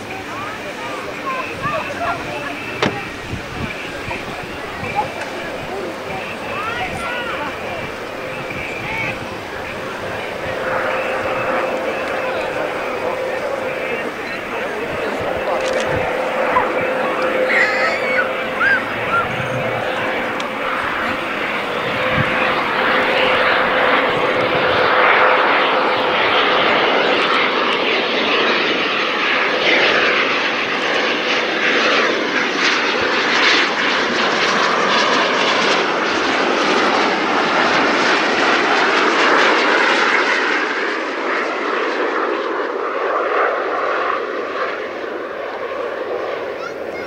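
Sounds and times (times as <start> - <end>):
aircraft engine rushing: 0.0 - 47.0.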